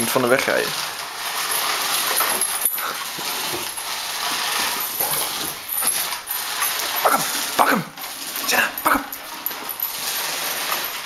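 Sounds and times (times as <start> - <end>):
toy car buzzing and rattling: 0.0 - 11.0.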